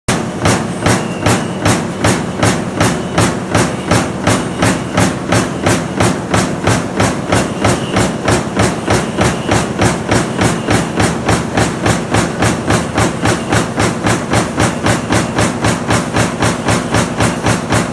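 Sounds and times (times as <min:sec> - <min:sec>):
stamping press metallic strokes: 0:00.1 - 0:17.9.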